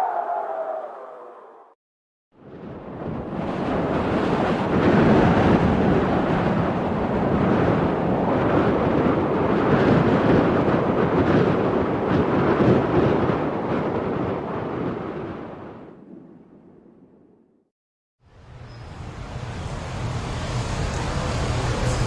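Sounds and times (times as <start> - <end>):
strong wind blowing: 0.0 - 1.8, 2.4 - 16.9, 18.4 - 22.0.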